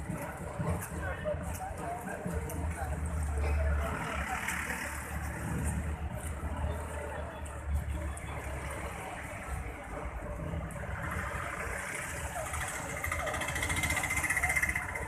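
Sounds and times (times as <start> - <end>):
street noise: 0.0 - 15.0
vehicle engine low rumble: 0.0 - 15.0.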